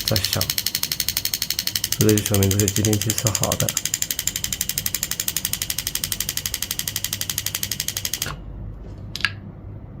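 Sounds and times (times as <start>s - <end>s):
relay clicking rapidly: 0.0s - 8.4s.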